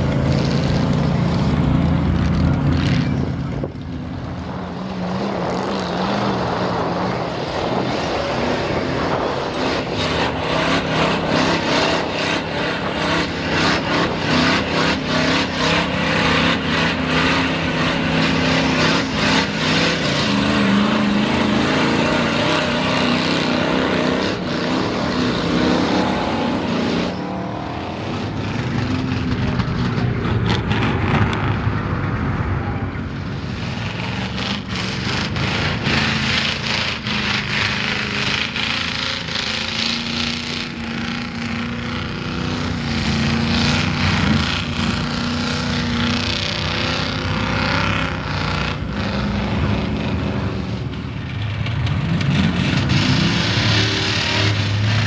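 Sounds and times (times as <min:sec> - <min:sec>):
truck engines revving: 0:00.0 - 0:55.0
tyres churning through mud: 0:04.5 - 0:31.8, 0:33.5 - 0:55.0.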